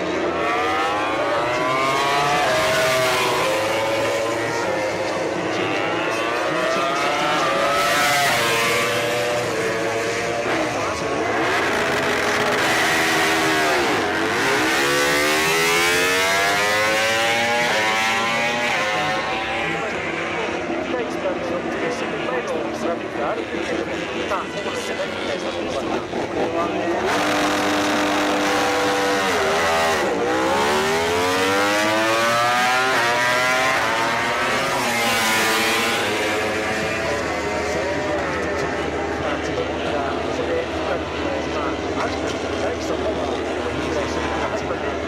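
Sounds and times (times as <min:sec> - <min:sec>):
racing motorcycle engine revving: 0:00.0 - 0:45.0.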